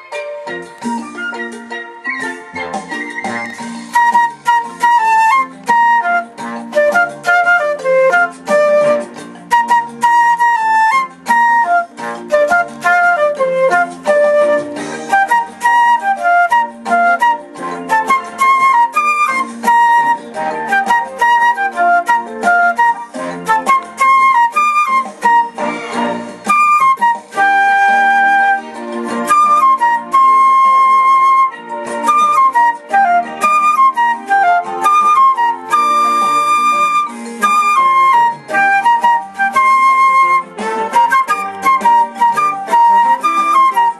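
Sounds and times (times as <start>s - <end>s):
backing chords and light beat: 0.0s - 43.9s
flute melody: 0.0s - 43.9s.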